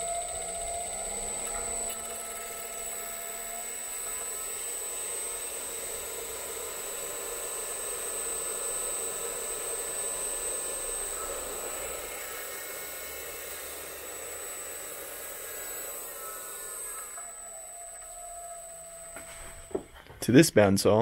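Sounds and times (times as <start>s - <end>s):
electric motor whirring and whining: 0.0s - 20.0s.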